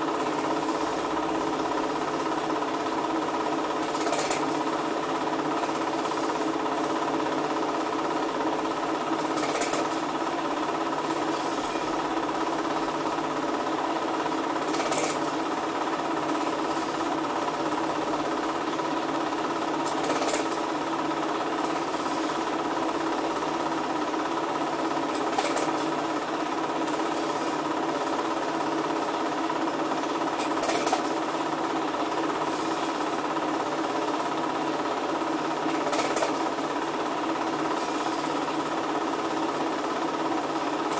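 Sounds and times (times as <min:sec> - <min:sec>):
film projector clattering: 0:00.0 - 0:40.9.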